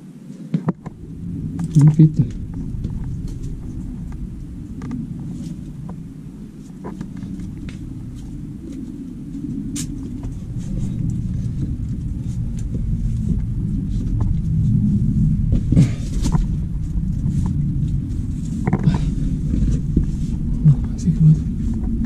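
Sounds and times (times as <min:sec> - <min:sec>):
low rumbling: 0:00.0 - 0:22.0
microphone rubbing on clothing: 0:00.8 - 0:22.0.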